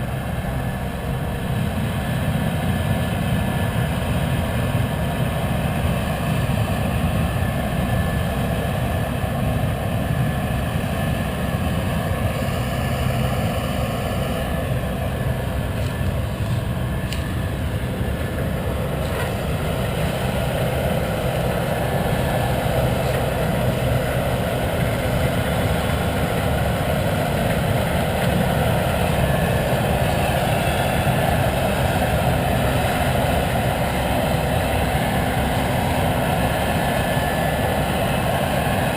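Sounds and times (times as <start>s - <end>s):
diesel machinery rumbling: 0.0s - 38.9s.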